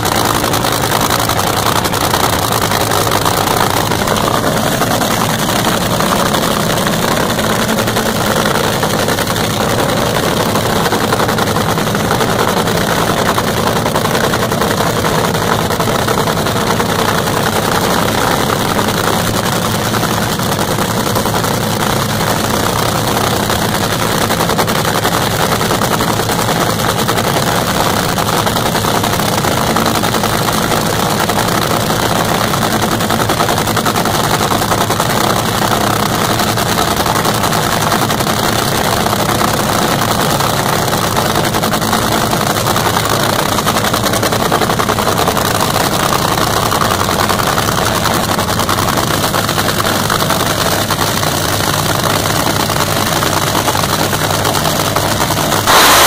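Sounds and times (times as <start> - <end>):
dragster engine idling: 0.0 - 56.0.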